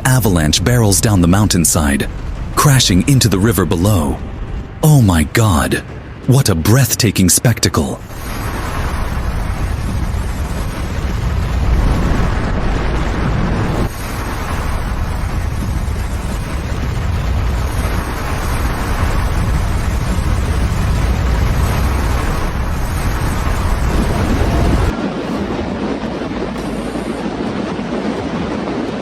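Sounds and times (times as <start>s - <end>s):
avalanche deep rumble: 0.0s - 29.0s.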